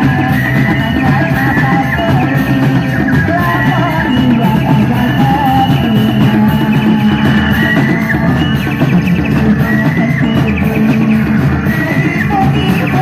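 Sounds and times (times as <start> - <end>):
live band music over loudspeakers: 0.0 - 13.0
wavering high melody line: 0.0 - 13.0.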